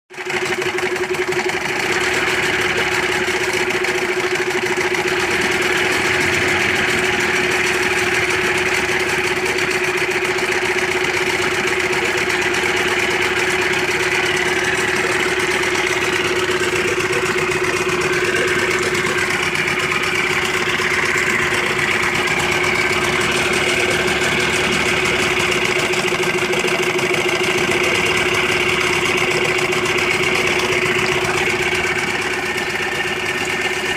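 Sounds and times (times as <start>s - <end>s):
outboard motor idling: 0.1s - 33.9s.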